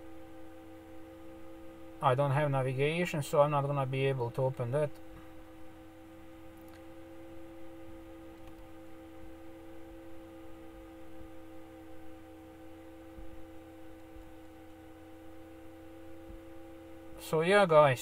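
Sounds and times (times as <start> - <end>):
hum of held tones: 0.0 - 18.0.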